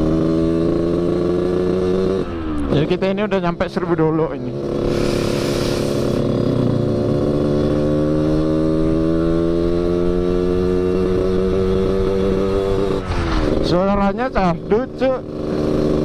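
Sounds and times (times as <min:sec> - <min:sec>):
two-stroke motorcycle engine accelerating: 0:00.0 - 0:16.0.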